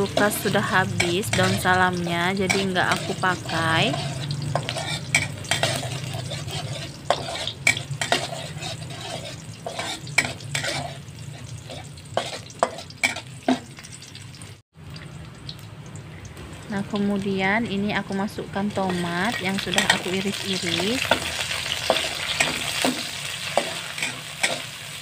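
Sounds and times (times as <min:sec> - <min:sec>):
metal spatula scraping wok: 0:00.0 - 0:14.1, 0:18.7 - 0:25.0
garlic sizzling in hot oil: 0:00.0 - 0:25.0.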